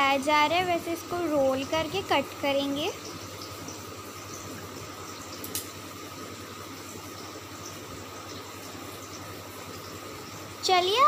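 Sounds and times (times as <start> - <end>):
thin steady whine: 0.0 - 11.0.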